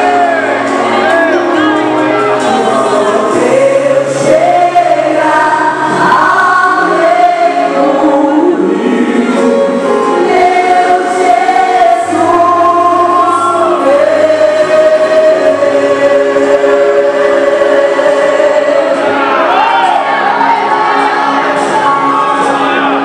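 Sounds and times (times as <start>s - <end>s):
choir singing long held notes: 0.0s - 23.0s
steady bass accompaniment: 0.0s - 23.0s.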